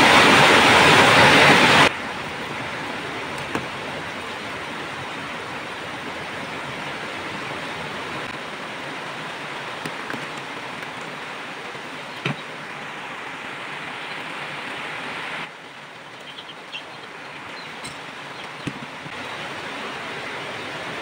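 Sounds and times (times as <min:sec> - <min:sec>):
water boiling in a pot: 0:01.8 - 0:21.0.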